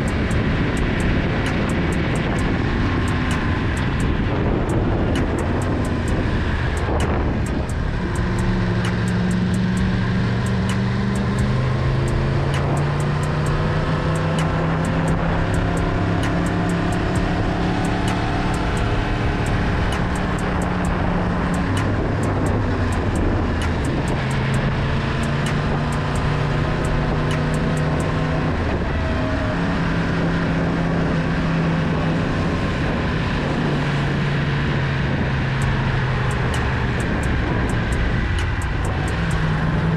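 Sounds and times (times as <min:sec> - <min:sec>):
motorcycle engine cruising: 0:00.0 - 0:39.9
steady rushing noise: 0:00.0 - 0:39.9.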